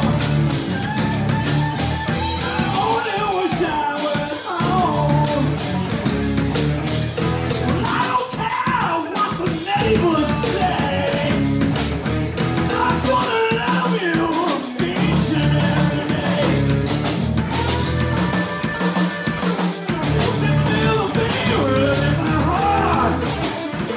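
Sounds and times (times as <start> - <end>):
electric bass: 0.0 - 8.8, 9.4 - 13.8, 14.8 - 23.9
drum kit beat: 0.0 - 23.9
electric guitar: 0.0 - 23.9.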